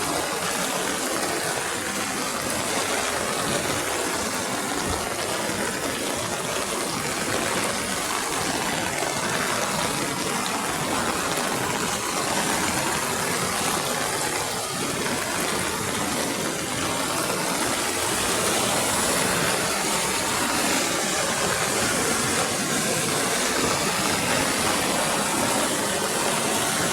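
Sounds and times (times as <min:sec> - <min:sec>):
water rushing: 0:00.0 - 0:26.9.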